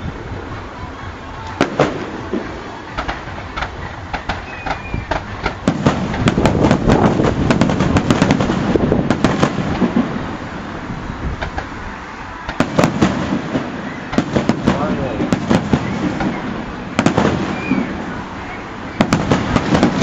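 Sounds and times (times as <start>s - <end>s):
continuous rumble: 0.0s - 20.0s
fireworks bangs and crackling: 0.0s - 20.0s.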